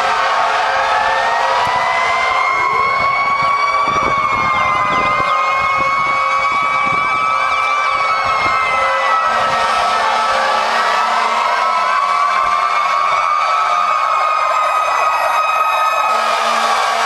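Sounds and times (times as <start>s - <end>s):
wailing fire truck sirens: 0.0s - 17.0s
warbling sirens: 0.0s - 17.0s.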